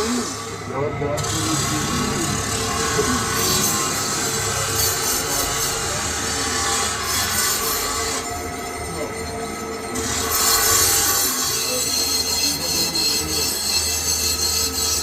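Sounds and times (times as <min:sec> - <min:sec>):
metal lathe cutting steel: 0:00.0 - 0:15.0.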